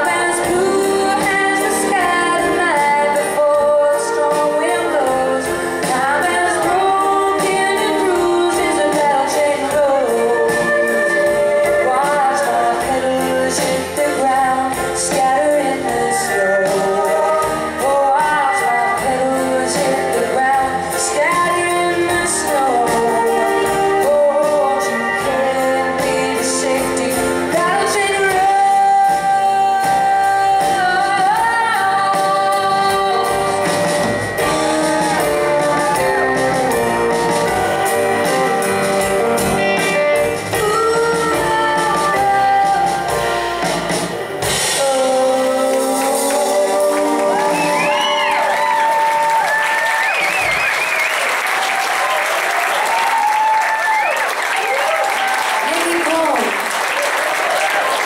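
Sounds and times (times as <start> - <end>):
woman singing: 0.0 - 50.2
live band playing: 0.0 - 58.0.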